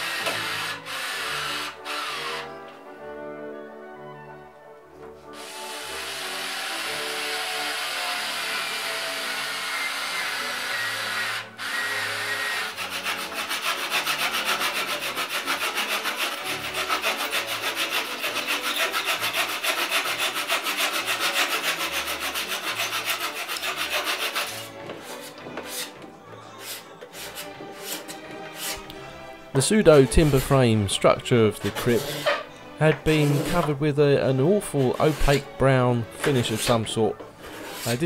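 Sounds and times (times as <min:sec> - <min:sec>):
hand saw cutting wood: 0:00.0 - 0:02.7, 0:05.3 - 0:29.0, 0:29.6 - 0:38.0.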